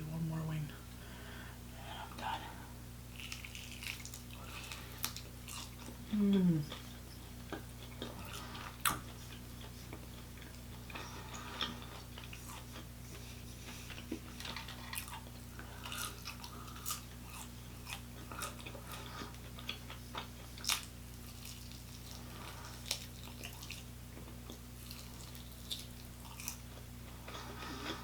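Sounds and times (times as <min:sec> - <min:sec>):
crunching and chewing: 0:03.1 - 0:28.0.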